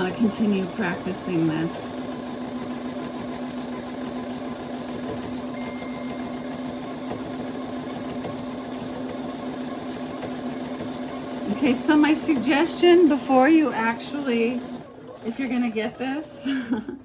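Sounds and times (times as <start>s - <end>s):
sewing machine running: 0.0s - 17.0s.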